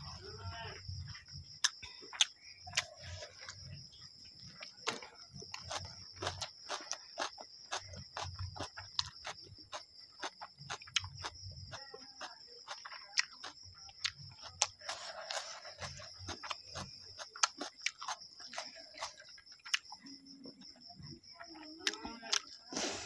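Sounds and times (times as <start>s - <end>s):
chewing with wet mouth clicks: 1.6s - 3.8s, 4.5s - 20.2s, 21.6s - 22.9s.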